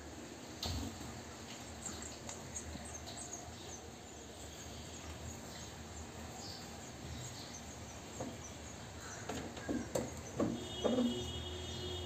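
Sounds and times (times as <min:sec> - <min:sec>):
low background noise: 0:00.0 - 0:12.0
sparrows chirping: 0:01.7 - 0:12.0.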